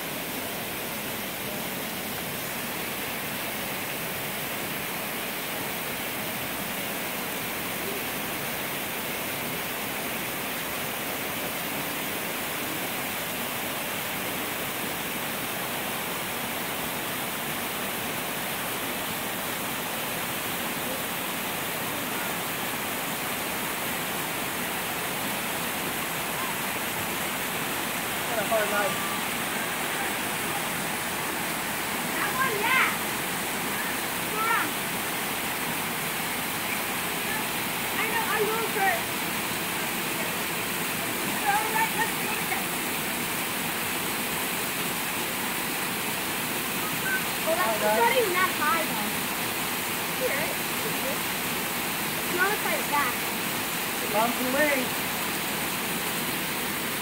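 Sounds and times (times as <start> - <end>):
rushing water of small waterfall: 0.0 - 57.0.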